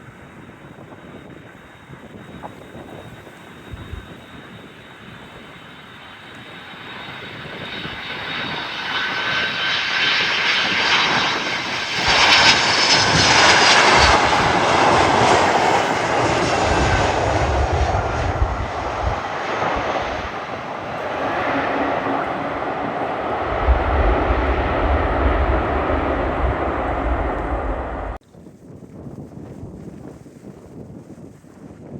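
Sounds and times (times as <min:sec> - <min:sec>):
airliner engines passing overhead: 0:00.0 - 0:28.2.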